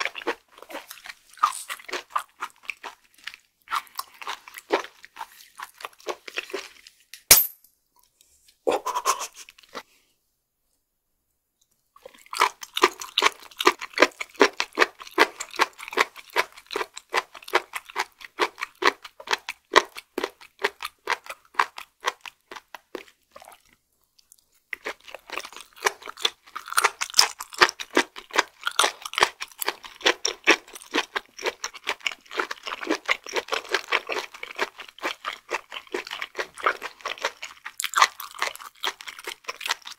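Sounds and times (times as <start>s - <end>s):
wet crunchy chewing: 0.0s - 7.0s, 12.0s - 39.9s.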